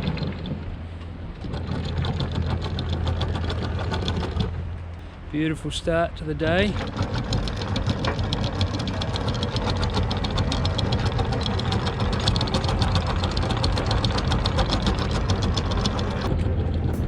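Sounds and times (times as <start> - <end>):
diesel engine ticking: 1.4 - 17.0.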